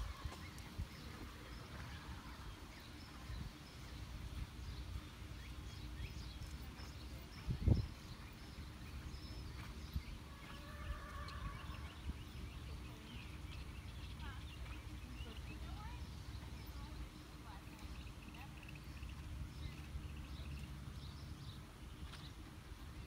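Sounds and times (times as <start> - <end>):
distant horse hoofbeats on sand: 0.0 - 23.0
steady low rumble: 0.0 - 23.0.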